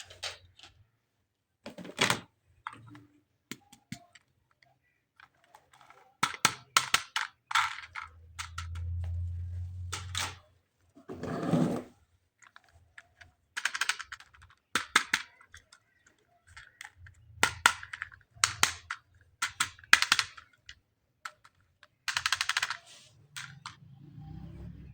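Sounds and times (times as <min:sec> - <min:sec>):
plastic toy parts clicking and rattling: 0:00.0 - 0:00.9, 0:01.7 - 0:10.5, 0:12.2 - 0:24.0.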